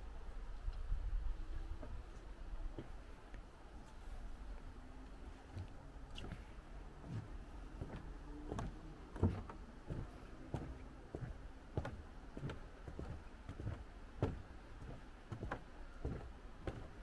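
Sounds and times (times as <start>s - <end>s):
footsteps on wooden boardwalk: 1.8s - 17.0s.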